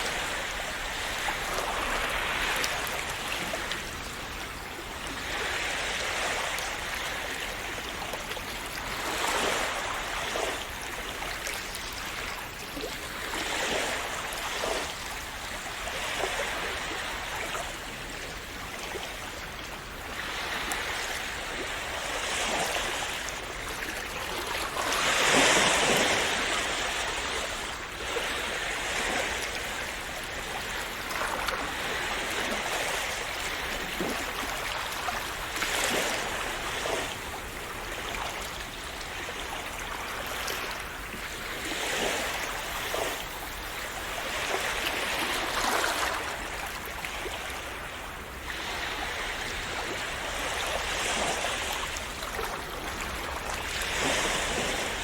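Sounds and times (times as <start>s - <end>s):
sea waves splashing on shore: 0.0s - 55.0s.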